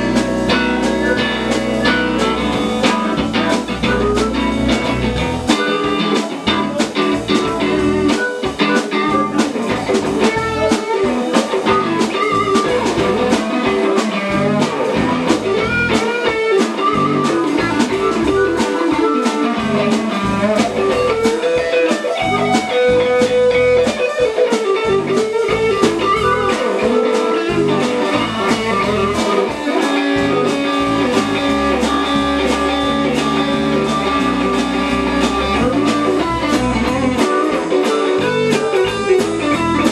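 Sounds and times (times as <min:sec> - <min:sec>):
drums keeping a steady beat: 0:00.0 - 0:39.9
electric guitar: 0:00.0 - 0:39.9.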